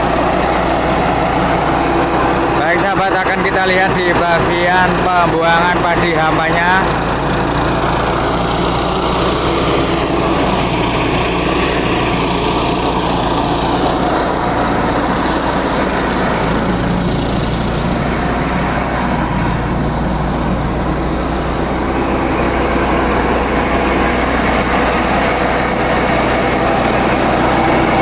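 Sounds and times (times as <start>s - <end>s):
rice thresher running: 0.0s - 28.0s.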